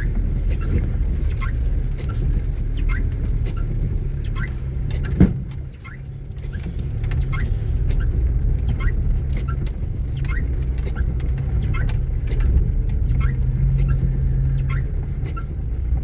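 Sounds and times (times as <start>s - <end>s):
car interior rumble: 0.0s - 16.0s
short squeaks: 0.0s - 16.0s.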